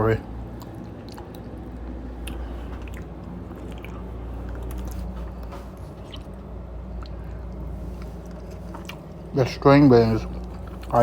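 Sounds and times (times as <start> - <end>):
low hum: 0.0 - 11.0
person chewing food: 0.4 - 9.3, 10.2 - 11.0.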